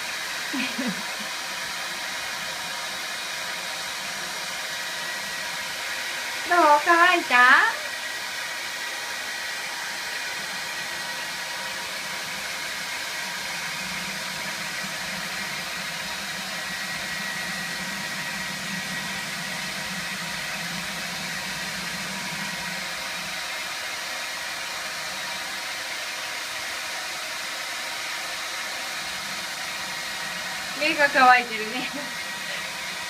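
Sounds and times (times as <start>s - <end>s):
hair dryer blowing: 0.0s - 33.0s.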